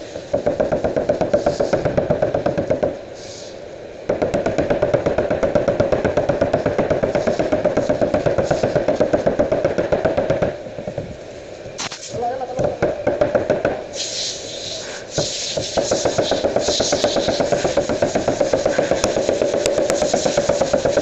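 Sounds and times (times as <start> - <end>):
rapid mechanical knocking: 0.0 - 3.0, 4.1 - 11.2, 12.5 - 13.8, 15.1 - 21.0.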